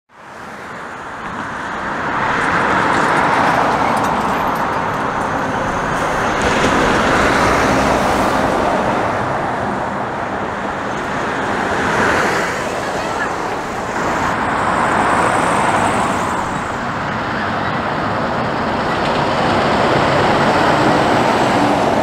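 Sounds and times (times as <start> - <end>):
tyre roar and engine noise: 0.1 - 22.0
vehicles driving past: 0.2 - 22.0.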